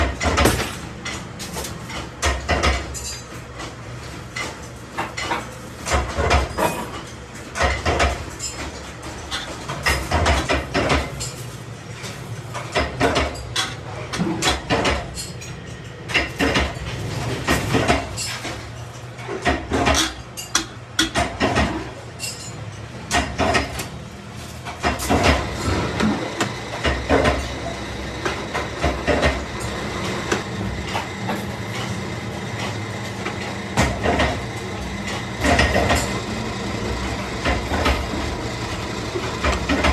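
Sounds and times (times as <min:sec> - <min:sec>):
metal parts knocking and clattering: 0:00.0 - 0:03.4, 0:04.0 - 0:39.9.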